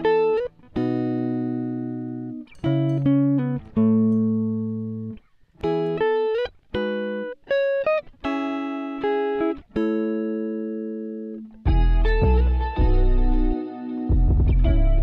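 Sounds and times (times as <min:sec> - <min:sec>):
plucked guitar chords: 0:00.0 - 0:15.0.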